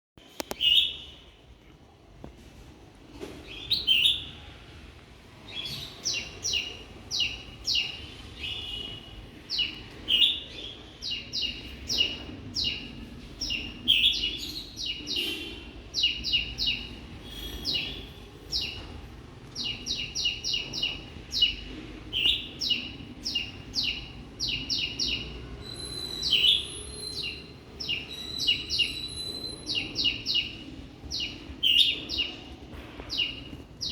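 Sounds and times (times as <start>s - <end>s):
small birds chirping: 0.2s - 1.5s, 3.4s - 4.5s, 5.5s - 33.9s.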